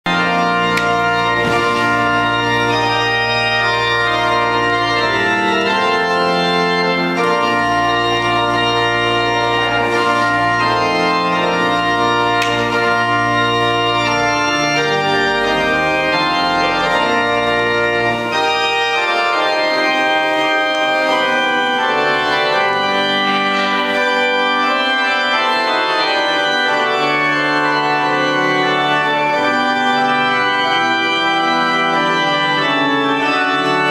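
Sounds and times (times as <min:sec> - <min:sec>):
church organ chords: 0:00.0 - 0:33.9.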